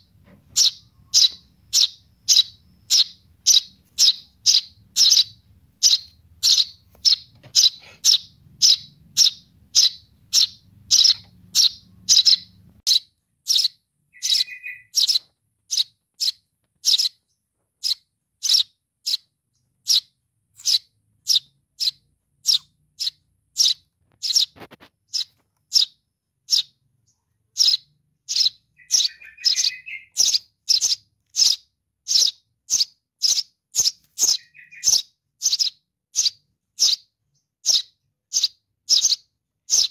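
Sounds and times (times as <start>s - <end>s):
softer lower chirp: 0.0s - 39.9s
sparrow chick begging chirps: 0.0s - 39.9s.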